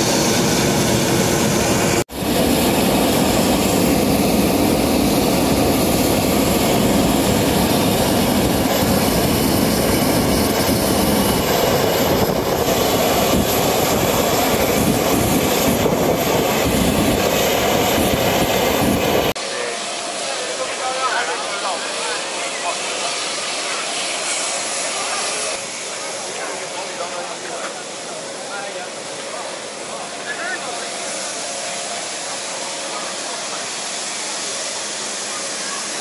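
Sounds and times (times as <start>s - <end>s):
jet aircraft engine: 0.0s - 36.0s.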